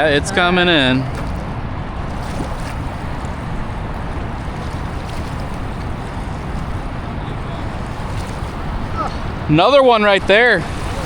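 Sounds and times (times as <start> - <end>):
water rushing through spillway: 0.0 - 11.0.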